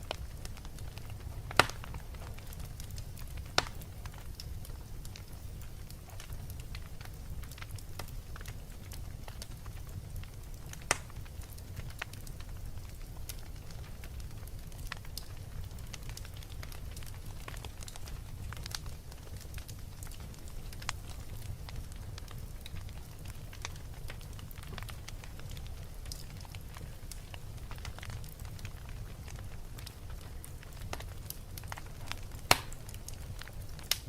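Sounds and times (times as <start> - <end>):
fire crackling and popping: 0.0 - 34.0.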